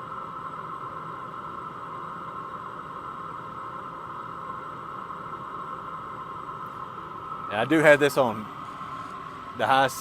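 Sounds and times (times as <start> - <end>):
diesel heater running: 0.0 - 10.0.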